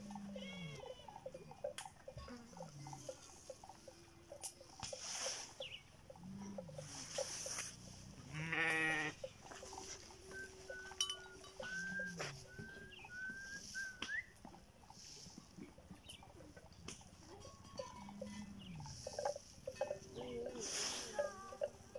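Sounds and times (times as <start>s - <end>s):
livestock animal calling: 0.0s - 21.9s.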